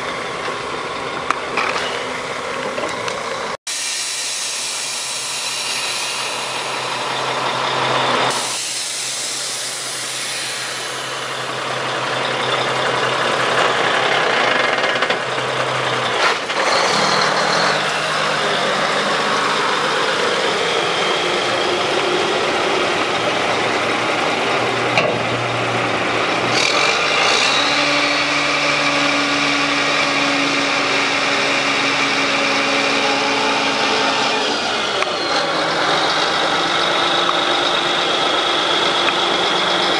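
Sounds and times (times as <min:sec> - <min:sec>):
diesel truck engine running: 0:04.2 - 0:39.9.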